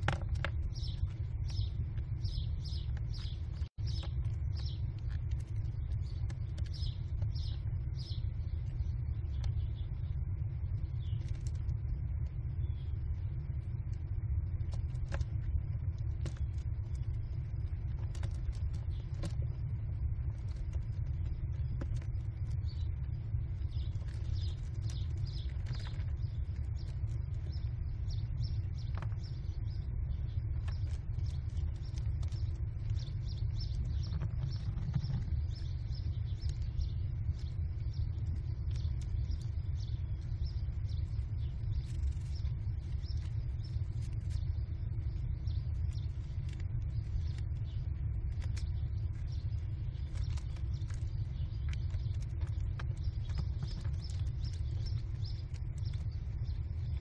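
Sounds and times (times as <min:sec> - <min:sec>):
steady low rumble: 0:00.0 - 0:57.0
nestlings calling high notes: 0:00.2 - 0:57.0.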